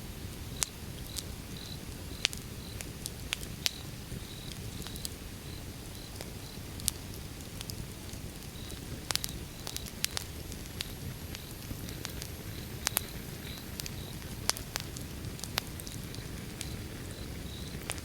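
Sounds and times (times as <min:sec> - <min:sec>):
burning logs crackling: 0:00.0 - 0:18.0
low rumble of flames: 0:00.0 - 0:18.0.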